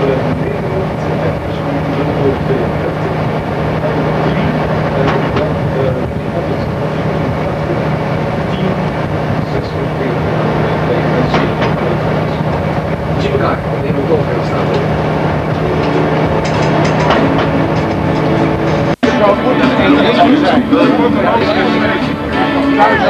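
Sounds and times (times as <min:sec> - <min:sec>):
generator droning: 0:00.0 - 0:23.0.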